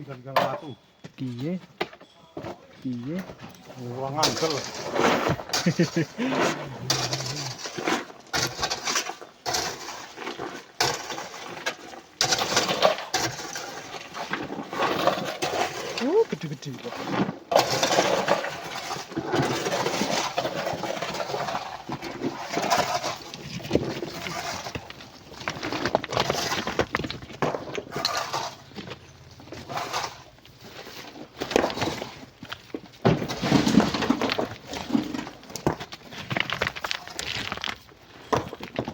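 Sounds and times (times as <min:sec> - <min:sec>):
stones clattering into truck: 0:03.2 - 0:38.9.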